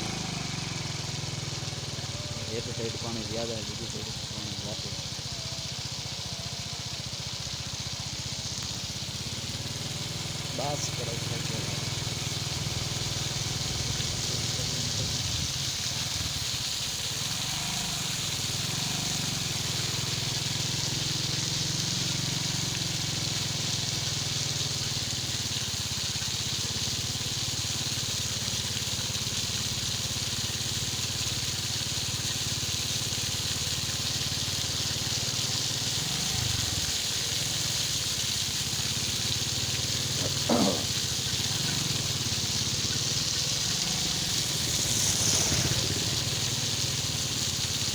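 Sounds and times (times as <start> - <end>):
truck engine running: 0.0 - 47.9
water spraying onto gravel: 0.0 - 47.9.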